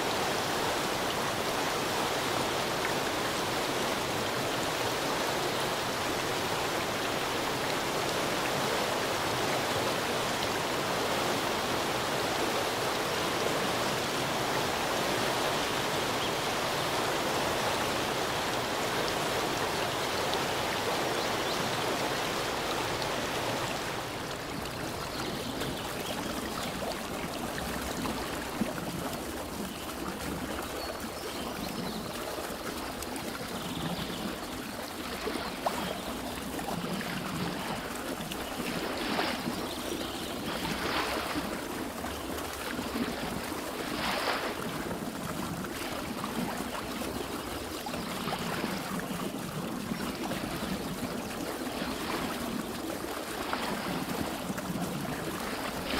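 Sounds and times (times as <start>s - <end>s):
stream rushing: 0.0s - 55.9s.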